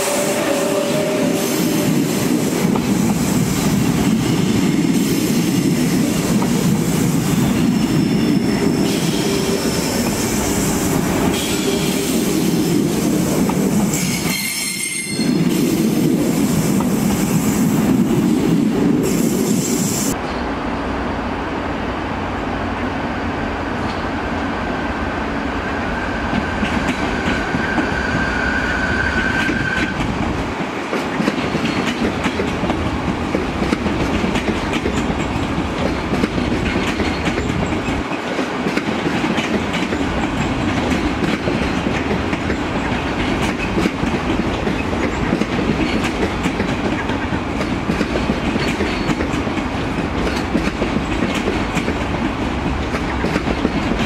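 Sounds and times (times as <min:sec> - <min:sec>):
train wheels rumbling and clacking: 0:00.0 - 0:21.0, 0:22.8 - 0:54.0.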